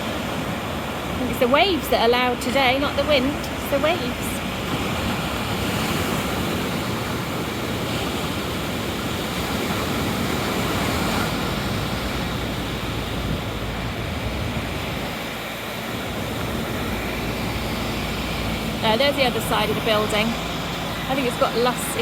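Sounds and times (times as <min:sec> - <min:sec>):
road traffic noise: 0:00.0 - 0:22.0
sea waves breaking: 0:00.0 - 0:22.0.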